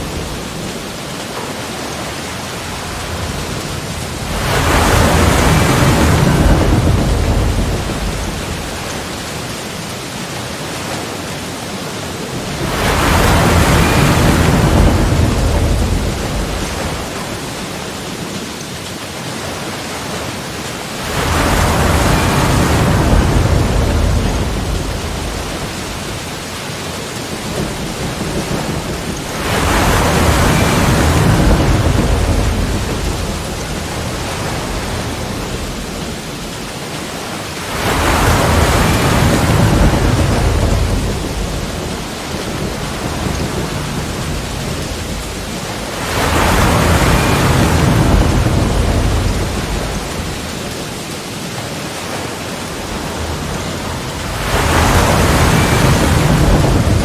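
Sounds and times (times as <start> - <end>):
sea waves breaking: 0.0 - 57.0
steady wash of surf: 0.0 - 57.0.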